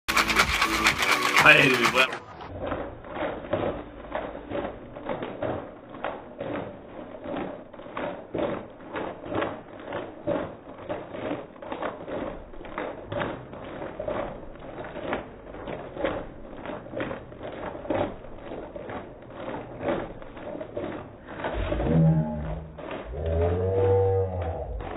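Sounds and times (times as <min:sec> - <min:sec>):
liquid sloshing in shaker bottle: 0:00.1 - 0:24.9.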